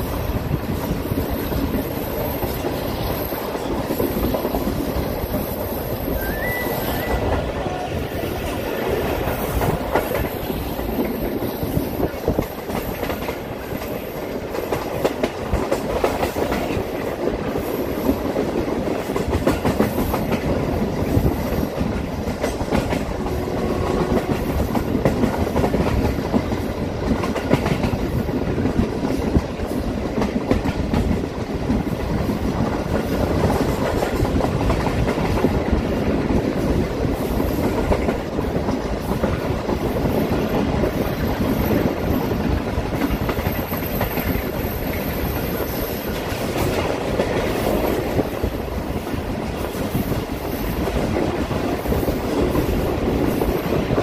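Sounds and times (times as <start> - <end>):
train wheels clattering over rail joints: 9.1 - 54.0.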